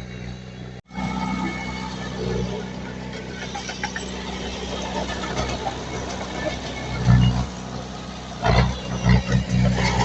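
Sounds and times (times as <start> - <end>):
heavy machinery diesel engine: 0.0 - 10.0.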